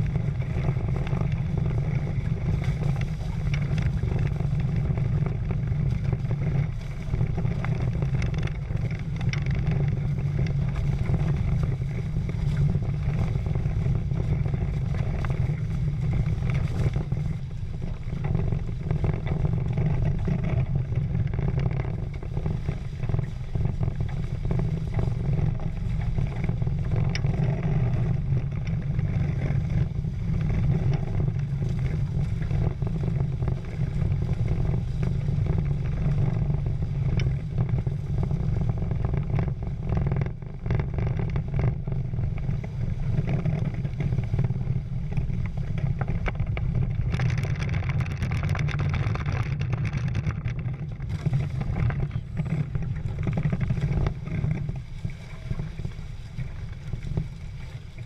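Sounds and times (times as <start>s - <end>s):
water rushing past hulls: 0.0s - 58.0s
wind buffeting camera: 0.0s - 58.0s.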